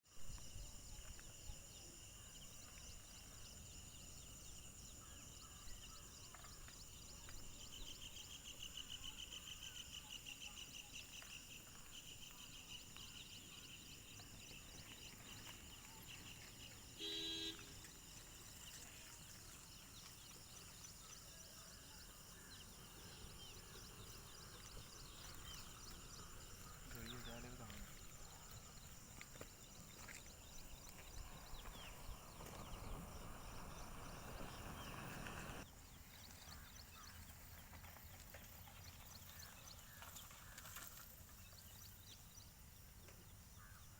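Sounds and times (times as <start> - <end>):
insects trilling: 0.1 - 43.9.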